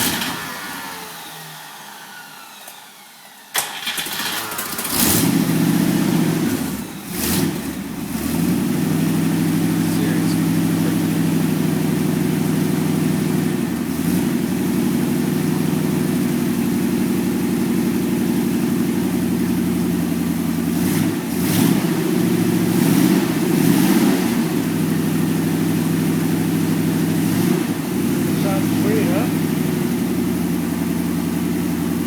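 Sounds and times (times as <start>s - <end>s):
car engine running: 3.9s - 32.0s.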